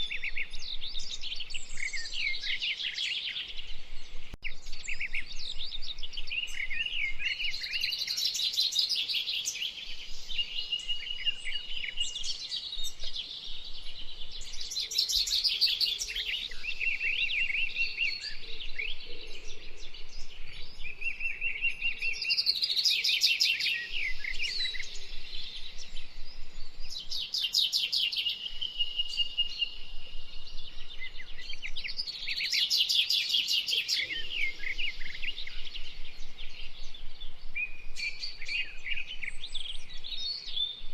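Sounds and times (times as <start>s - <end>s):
songbird trilling and chirping: 0.0s - 40.9s.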